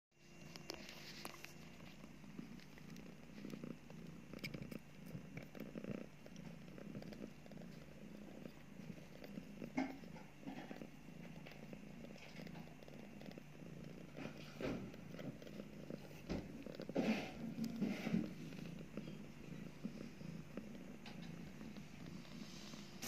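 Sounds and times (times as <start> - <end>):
cat purring: 0.2 - 23.0.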